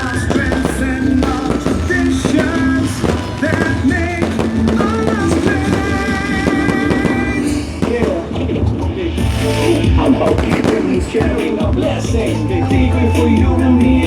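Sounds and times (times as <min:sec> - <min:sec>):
upbeat song with steady beat: 0:00.0 - 0:14.0.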